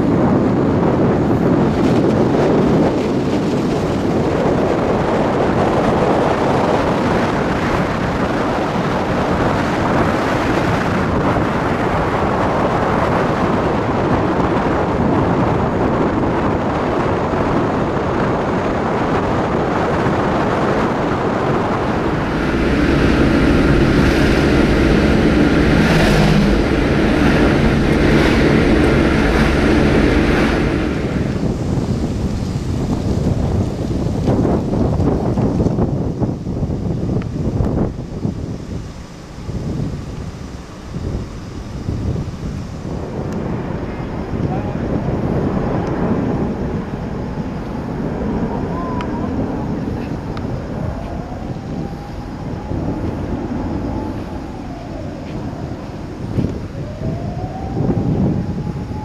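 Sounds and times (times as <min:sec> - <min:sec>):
tyre noise on wet road: 0:00.0 - 0:59.0
wind rushing over microphone: 0:00.0 - 0:59.0
low hum with held tones: 0:04.7 - 0:59.0.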